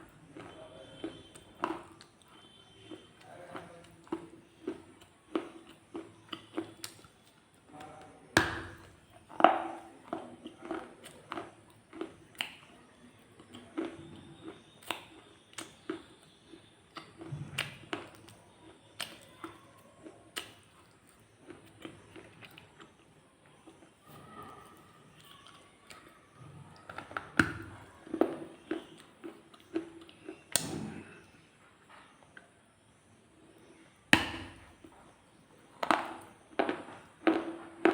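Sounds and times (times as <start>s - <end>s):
shale crunching when chewed: 0.0s - 8.0s, 8.7s - 32.5s.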